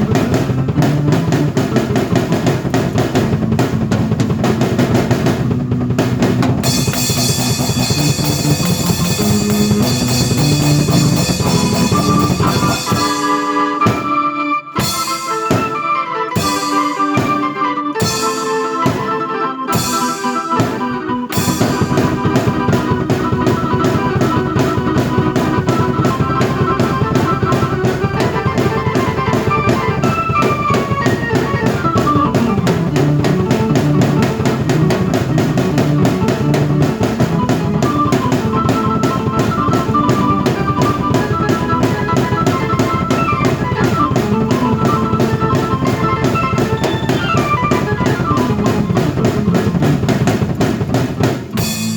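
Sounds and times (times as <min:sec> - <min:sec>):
melodic keyboard lines: 0:00.0 - 0:50.6
drum kit groove: 0:00.0 - 0:51.9.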